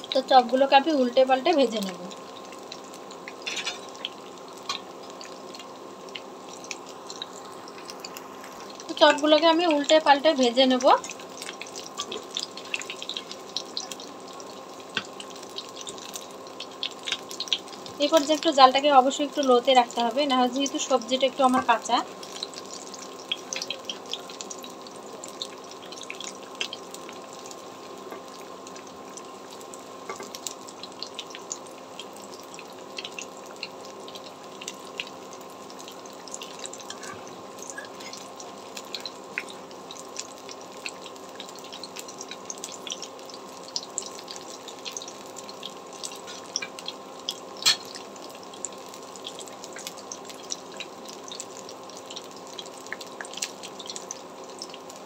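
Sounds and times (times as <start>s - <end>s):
deep-frying sizzle: 0.0s - 55.0s.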